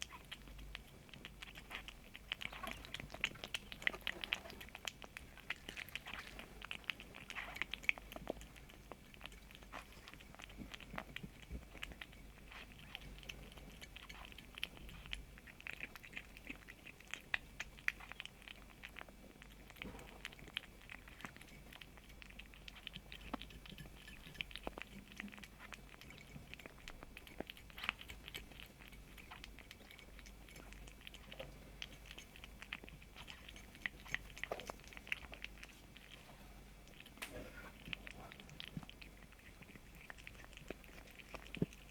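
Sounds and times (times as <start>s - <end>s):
kitten chewing: 0.0s - 41.9s.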